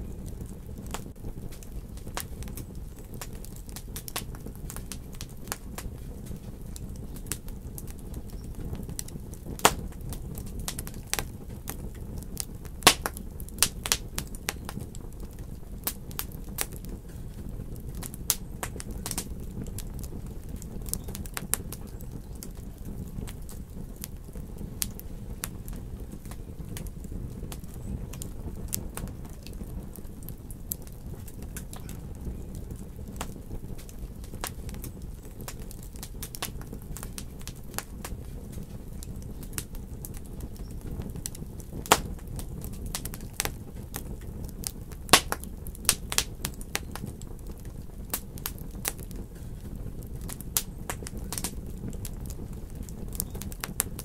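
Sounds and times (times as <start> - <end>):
low rumble of flame: 0.0 - 54.0
wood fire crackling and popping: 0.0 - 54.0.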